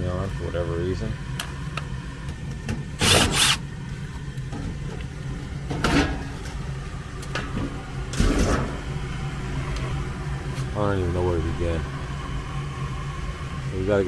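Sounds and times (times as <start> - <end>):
furnace motor humming: 0.0 - 14.0.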